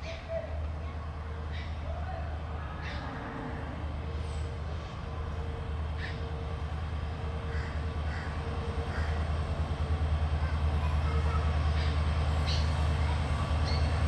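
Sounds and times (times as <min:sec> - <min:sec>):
diesel locomotive engine drone: 0:00.0 - 0:14.0.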